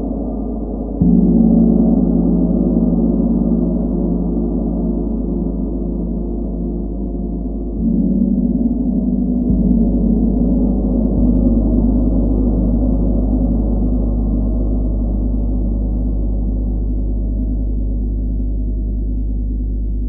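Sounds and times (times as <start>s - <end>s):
deep gong struck with mallet: 0.0s - 19.9s.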